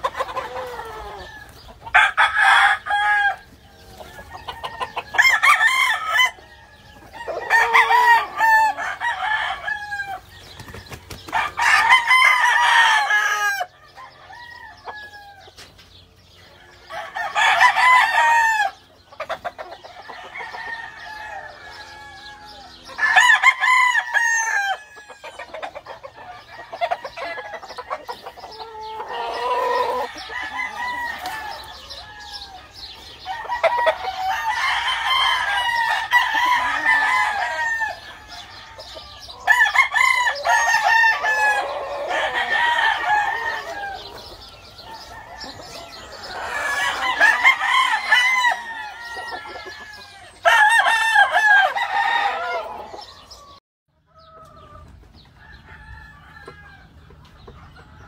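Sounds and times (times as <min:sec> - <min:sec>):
roosters crowing: 0:00.0 - 0:58.0.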